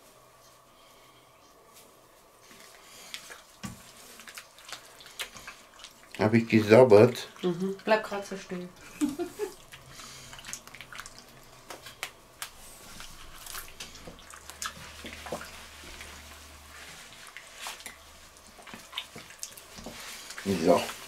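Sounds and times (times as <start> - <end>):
wet squelches of meat kneading: 2.4 - 8.8, 9.4 - 21.0.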